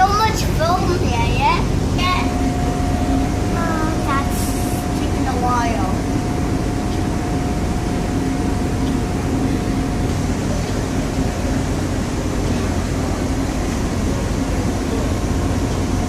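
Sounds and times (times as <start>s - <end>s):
boat engine droning: 0.0s - 16.0s
faint steady whine: 0.0s - 16.0s.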